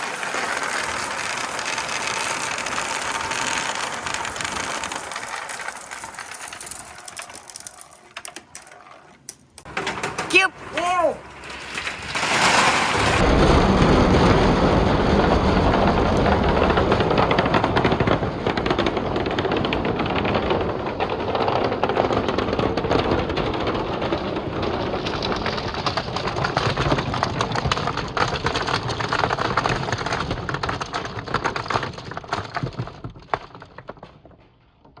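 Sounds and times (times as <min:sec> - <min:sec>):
balls clattering down wooden slope: 0:00.0 - 0:13.6, 0:15.5 - 0:35.0.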